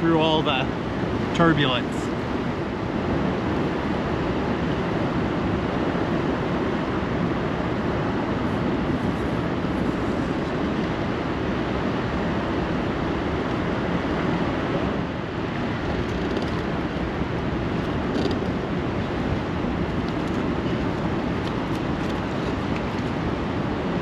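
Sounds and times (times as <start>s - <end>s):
rushing river current: 0.0s - 24.0s.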